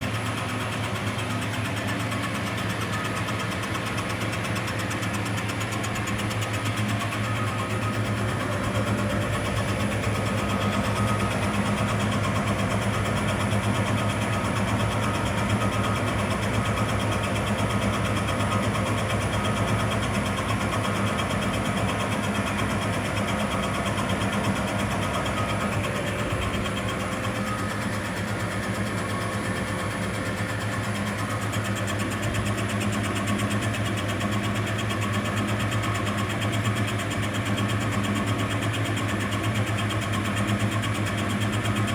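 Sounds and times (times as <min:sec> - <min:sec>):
metal lathe running: 0:00.0 - 0:41.9.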